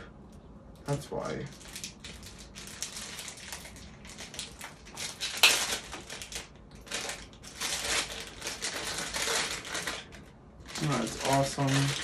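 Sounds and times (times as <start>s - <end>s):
plastic wrapping crinkling: 1.3s - 12.0s.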